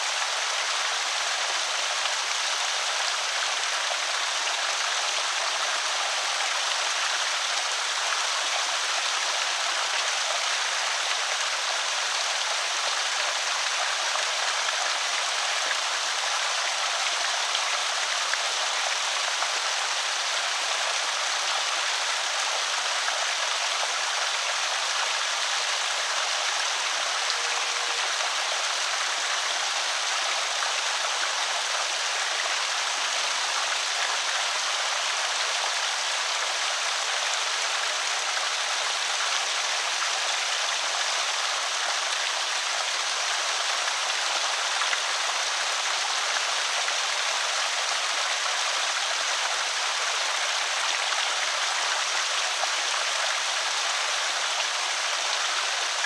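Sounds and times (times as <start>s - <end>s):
water rushing over spillway: 0.0s - 56.0s.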